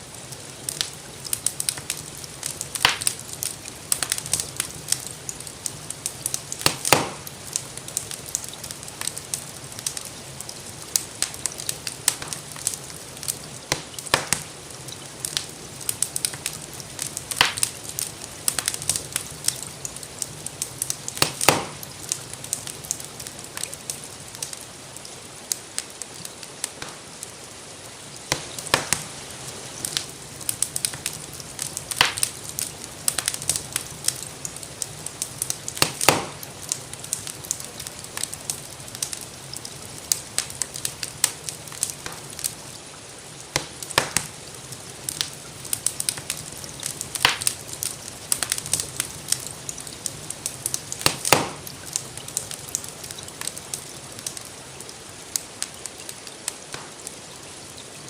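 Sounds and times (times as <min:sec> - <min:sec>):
gentle rainfall hiss: 0:00.0 - 0:58.0
wood fire crackling and popping: 0:00.0 - 0:58.0.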